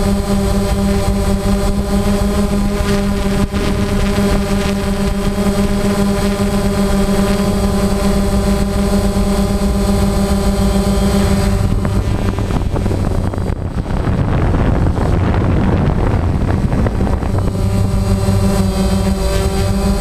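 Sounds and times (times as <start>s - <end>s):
drone propellers whining: 0.0s - 20.0s
wind noise: 0.0s - 20.0s.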